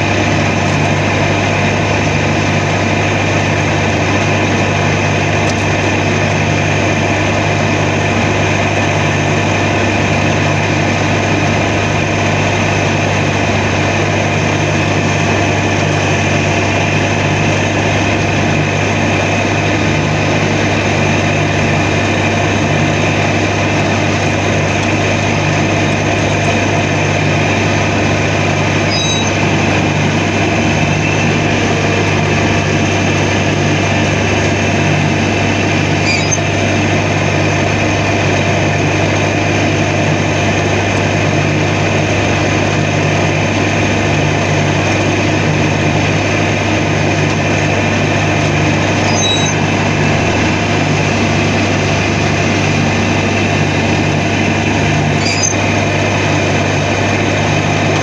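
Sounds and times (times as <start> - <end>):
mower diesel engine running: 0.0 - 58.0.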